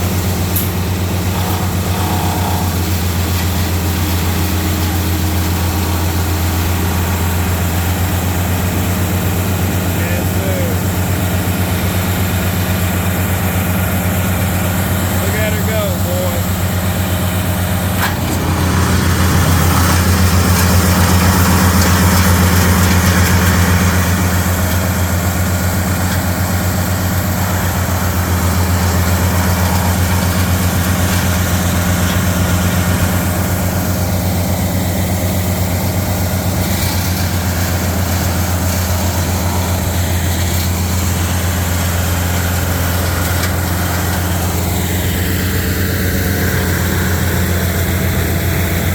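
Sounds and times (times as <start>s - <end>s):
wood chipper engine droning: 0.0s - 48.9s.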